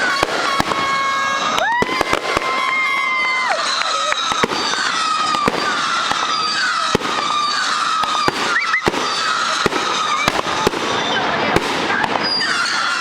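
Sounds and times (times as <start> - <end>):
fireworks bangs: 0.0 - 13.0
fireworks crackling: 0.0 - 13.0
whistling fireworks: 0.0 - 13.0.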